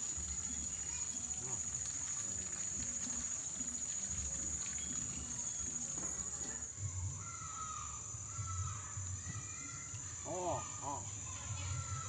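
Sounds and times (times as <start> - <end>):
crickets shrilling: 0.0 - 12.0.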